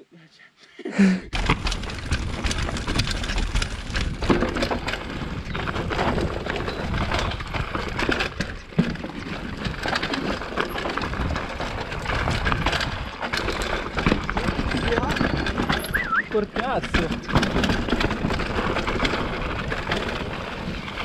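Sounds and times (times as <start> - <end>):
bike rattling and clicking: 1.3 - 21.0
bike tyres on dirt trail: 1.3 - 21.0.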